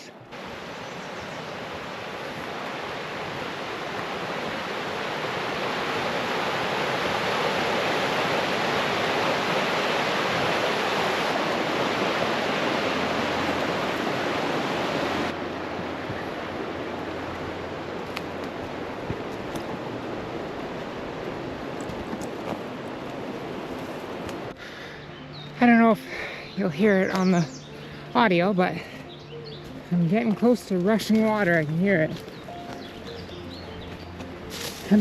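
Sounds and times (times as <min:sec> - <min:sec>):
rushing creek water: 0:00.0 - 0:35.0.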